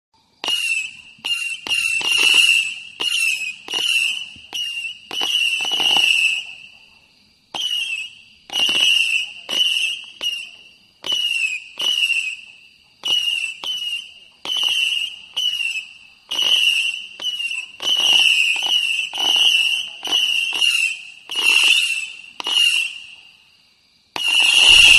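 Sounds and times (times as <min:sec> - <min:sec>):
whistling firework shots: 0:00.2 - 0:24.9.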